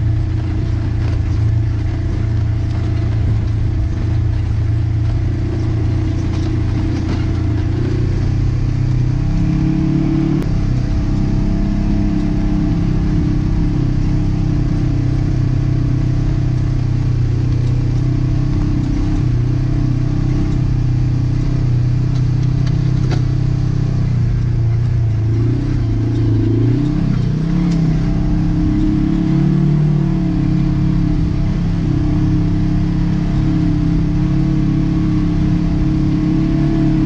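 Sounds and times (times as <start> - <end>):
utility vehicle engine running: 0.0 - 37.0.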